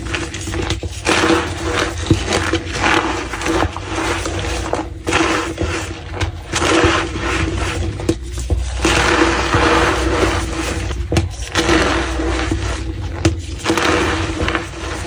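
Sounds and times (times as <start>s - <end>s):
chalk squeaking and crunching: 0.0s - 15.0s.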